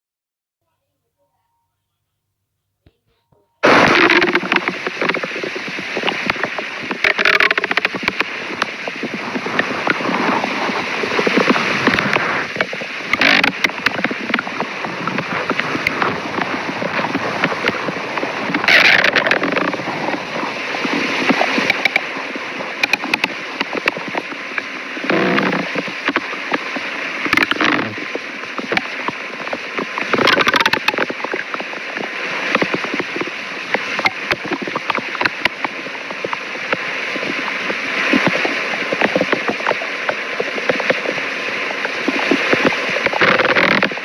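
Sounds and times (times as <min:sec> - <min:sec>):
stomach growling: 0:03.6 - 0:44.0.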